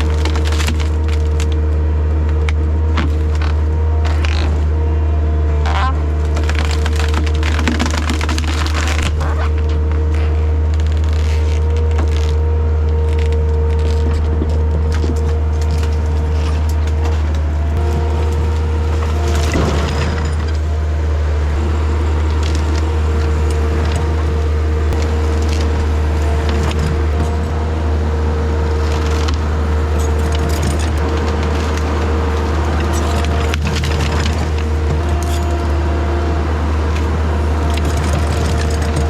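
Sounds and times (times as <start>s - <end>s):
wood cracking and splintering: 0.0s - 4.7s, 5.6s - 39.0s
diesel engine running under load: 0.0s - 39.0s
steady whine: 0.0s - 39.0s.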